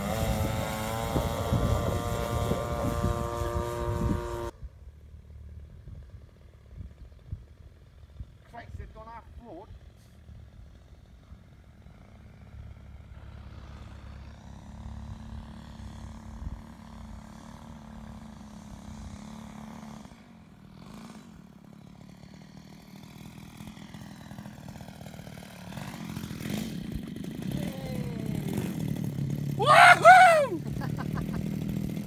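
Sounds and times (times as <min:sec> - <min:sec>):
model plane engine droning: 0:00.0 - 0:32.0.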